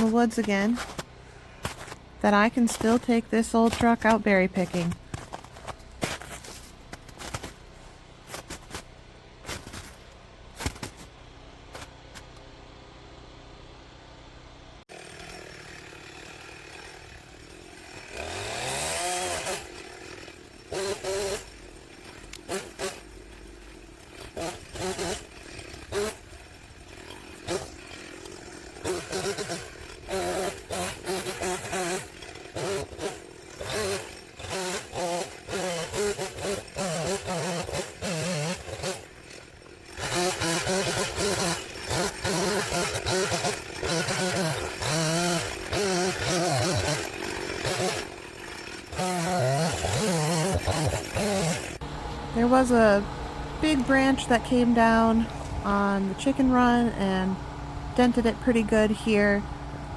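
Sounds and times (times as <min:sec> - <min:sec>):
chainsaw engine revving: 0:00.0 - 0:07.6, 0:14.9 - 0:59.9.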